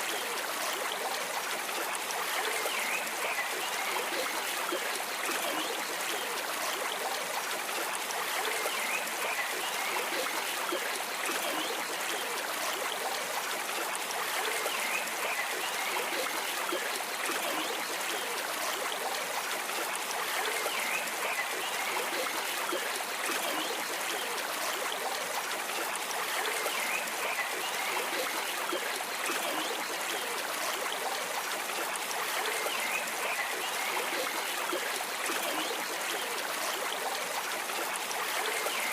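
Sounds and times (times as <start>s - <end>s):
stream water flowing over stones: 0.0s - 38.9s.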